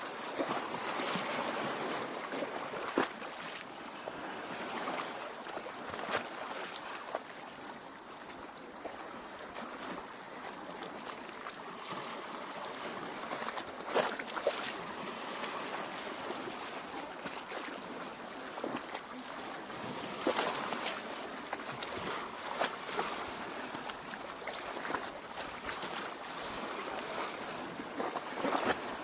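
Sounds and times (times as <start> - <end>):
water lapping against shore: 0.0 - 29.0.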